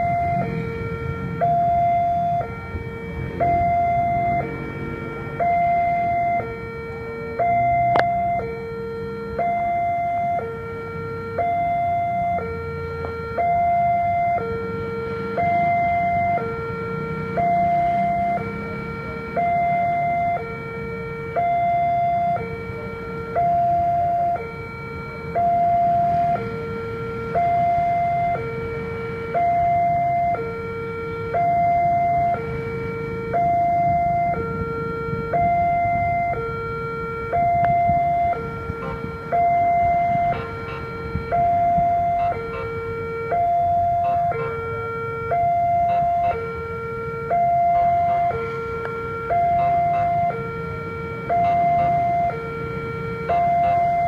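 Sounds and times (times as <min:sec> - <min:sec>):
level crossing two-tone alarm: 0:00.0 - 0:54.0.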